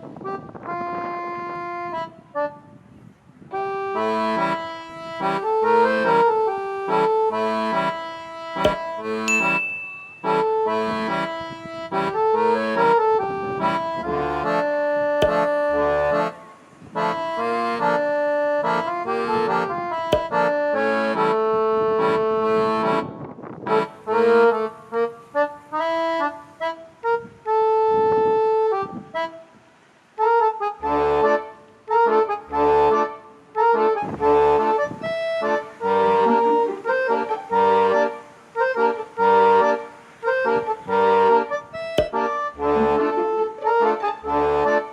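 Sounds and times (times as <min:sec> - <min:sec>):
accordion tune with light beat: 0:00.0 - 0:02.8, 0:03.5 - 0:44.9.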